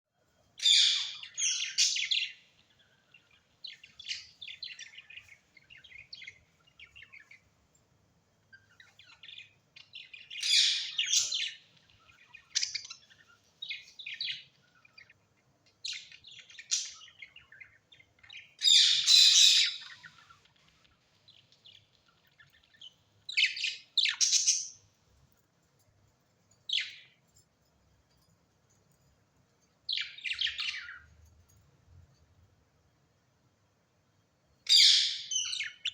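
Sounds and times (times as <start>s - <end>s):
birds chirping: 0.5s - 7.8s, 8.4s - 27.5s, 28.1s - 32.4s, 34.6s - 35.9s.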